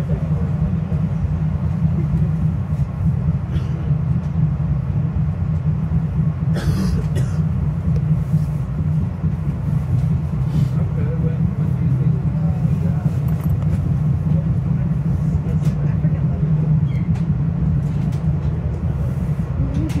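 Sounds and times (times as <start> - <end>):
rattle in train car: 0.0 - 20.0
train wheels running on rails: 0.0 - 20.0.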